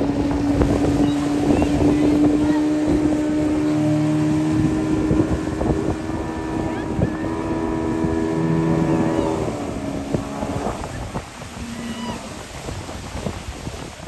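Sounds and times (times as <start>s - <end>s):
motorboat engine running: 0.0s - 14.0s
water noise: 0.0s - 14.0s
wind: 0.0s - 14.0s.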